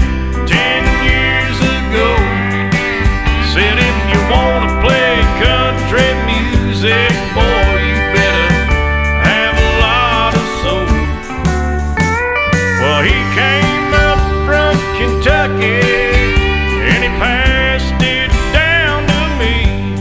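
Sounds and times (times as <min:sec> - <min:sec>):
bass and drum beat: 0:00.0 - 0:20.0
steel guitar bending notes: 0:00.0 - 0:20.0.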